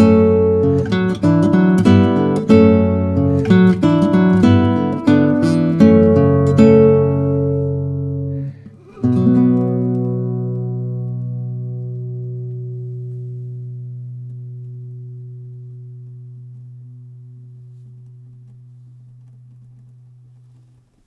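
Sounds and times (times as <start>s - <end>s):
classical guitar chord ringing: 0.0s - 20.7s.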